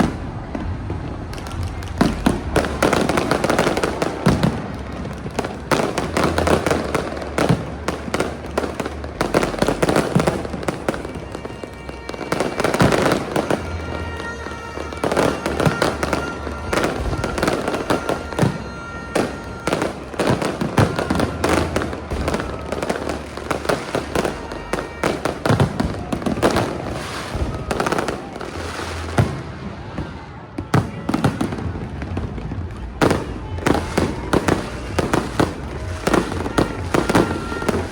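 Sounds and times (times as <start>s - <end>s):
fireworks bangs and crackles: 0.0s - 37.9s
music playing: 0.0s - 37.9s.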